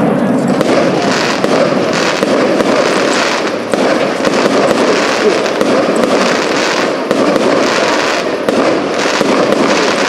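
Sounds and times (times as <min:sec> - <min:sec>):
crackling fireworks stars: 0:00.0 - 0:10.0
fireworks cracks and bangs: 0:00.0 - 0:10.0.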